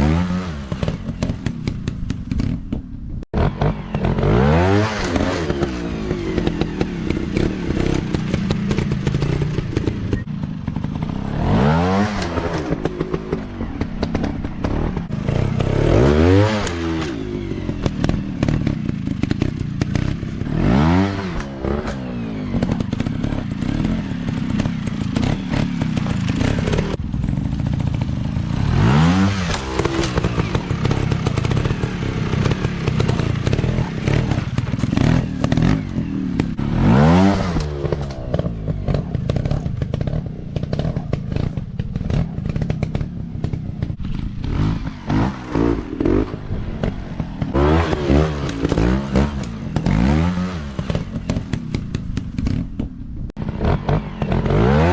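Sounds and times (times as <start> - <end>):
dirt bike engine revving: 0.0 - 2.6, 3.4 - 54.9
engine clatter: 0.0 - 54.9.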